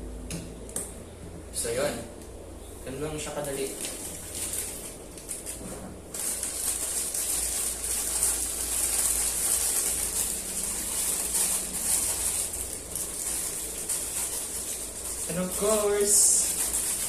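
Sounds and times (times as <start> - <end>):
plastic packaging crinkling: 3.2 - 17.0.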